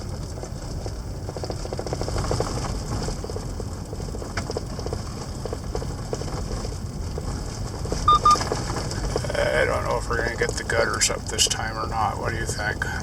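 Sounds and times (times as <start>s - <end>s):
vehicle road and engine rumble: 0.0s - 13.0s.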